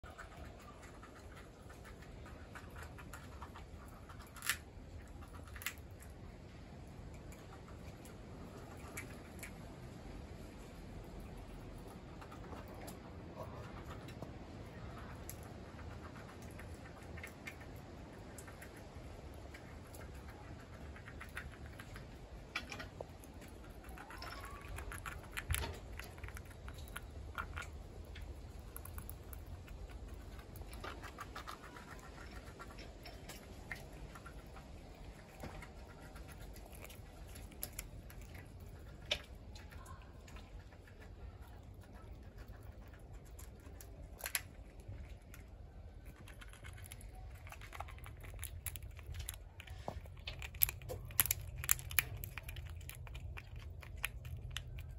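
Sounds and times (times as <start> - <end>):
squirrel gnawing nut shell: 0.0 - 54.9.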